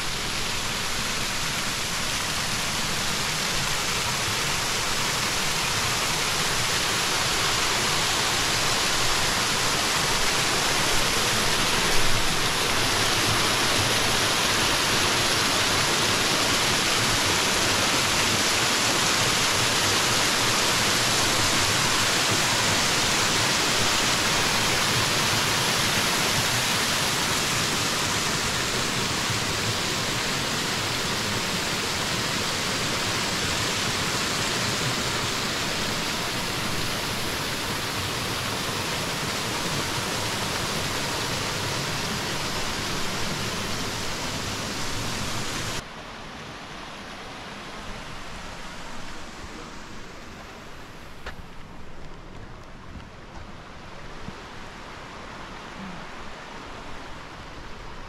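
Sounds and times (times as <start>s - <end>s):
water rushing over rocks: 0.0s - 51.9s.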